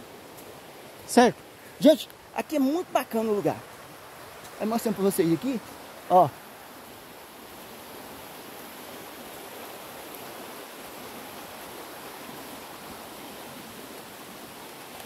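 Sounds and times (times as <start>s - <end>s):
waterfall stream rushing: 0.0s - 15.0s.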